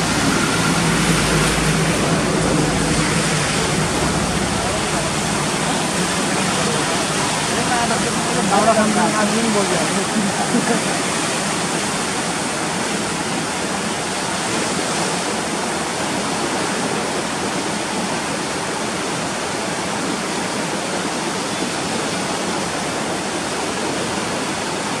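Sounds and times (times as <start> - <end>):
floodwater rushing and churning: 0.0 - 25.0.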